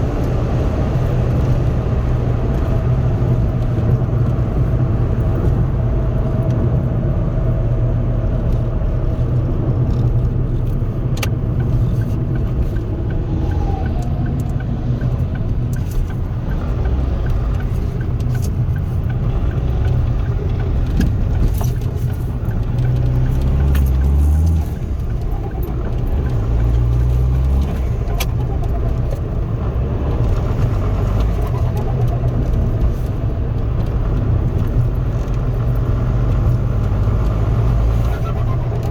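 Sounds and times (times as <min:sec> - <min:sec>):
car engine droning: 0:00.0 - 0:38.9
road noise: 0:00.0 - 0:38.9.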